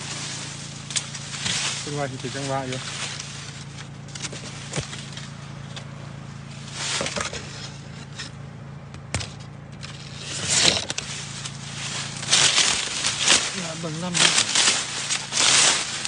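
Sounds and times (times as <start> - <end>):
dry leaves rustling and scraping: 0.0 - 16.0
steady low hum: 0.0 - 16.0.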